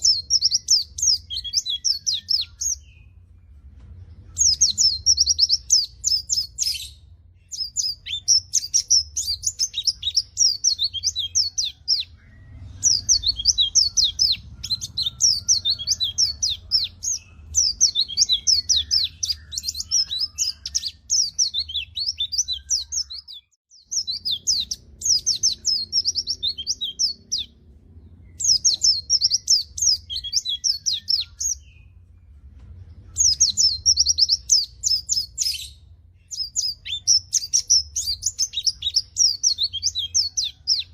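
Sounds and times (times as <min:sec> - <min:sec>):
bird chattering song: 0:00.0 - 0:03.2, 0:04.3 - 0:32.2, 0:33.0 - 0:40.9.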